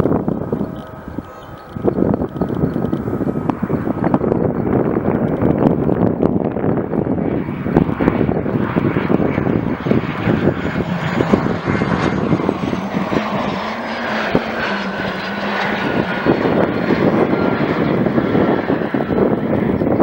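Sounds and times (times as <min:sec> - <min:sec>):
jet engines landing: 0:00.0 - 0:20.0.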